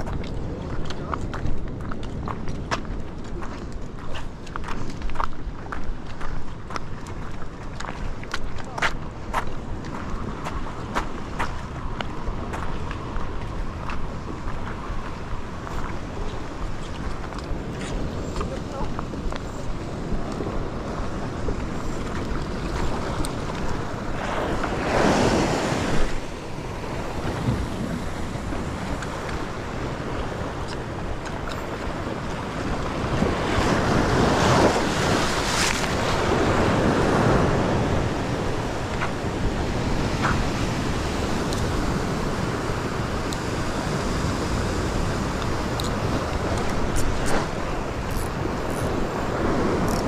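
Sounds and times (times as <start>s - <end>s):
waves washing over rocks: 0.0s - 50.0s
wind buffeting microphone: 0.0s - 50.0s.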